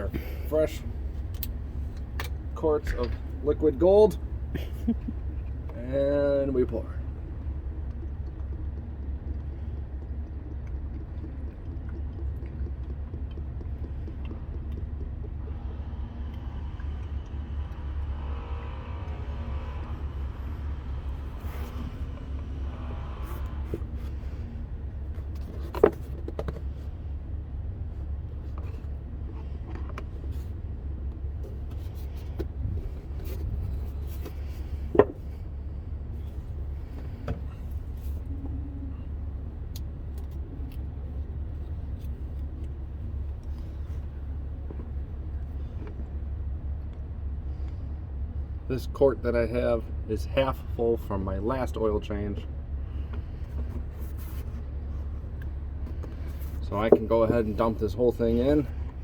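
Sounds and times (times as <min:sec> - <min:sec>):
oil glugging through a funnel: 0:00.0 - 0:47.9
steady low rumble: 0:00.0 - 0:59.0.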